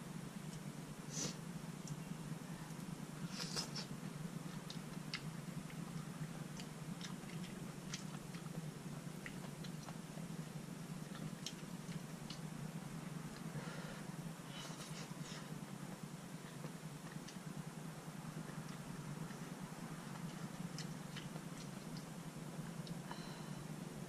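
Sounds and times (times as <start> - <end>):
low hum: 0.0 - 24.0
chewing: 2.7 - 13.5, 14.5 - 23.2.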